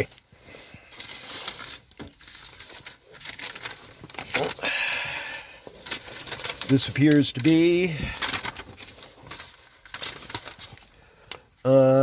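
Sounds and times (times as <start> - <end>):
paper rustling and crinkling: 0.0 - 11.5.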